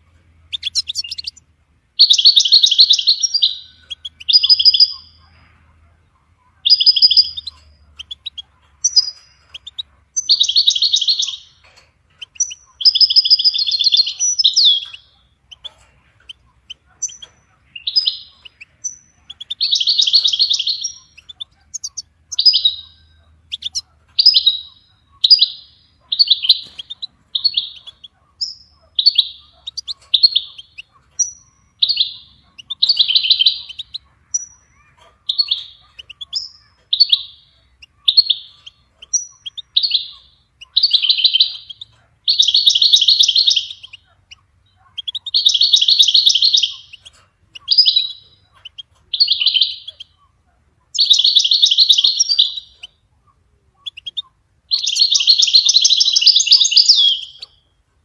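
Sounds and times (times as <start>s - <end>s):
finch chirping and trilling: 0.0s - 58.0s.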